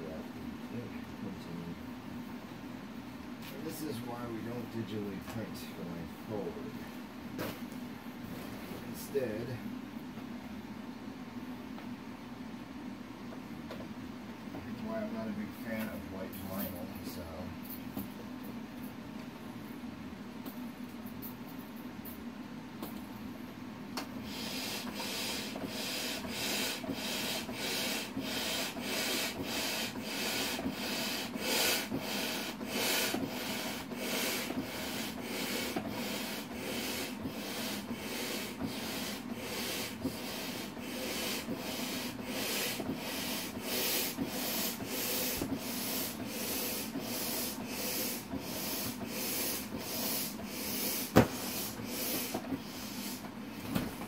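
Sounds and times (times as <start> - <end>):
air pump humming with rushing pulse: 0.0 - 54.0.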